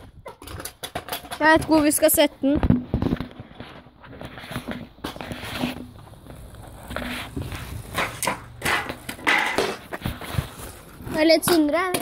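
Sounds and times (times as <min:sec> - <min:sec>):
footsteps: 0:00.0 - 0:12.0.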